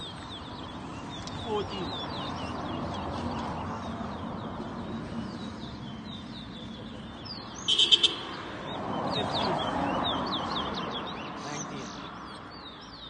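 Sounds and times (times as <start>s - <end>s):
background noise: 0.0s - 13.0s.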